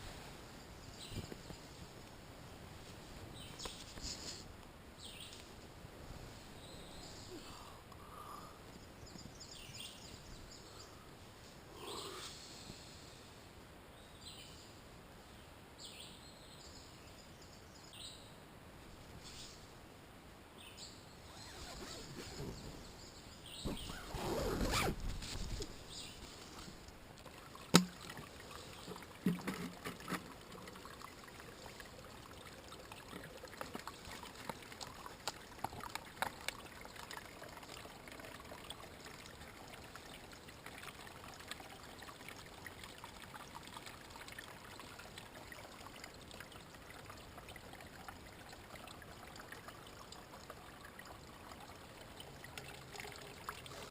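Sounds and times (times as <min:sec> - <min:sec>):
trickle of flowing water: 0:00.0 - 0:18.2, 0:20.6 - 0:53.9.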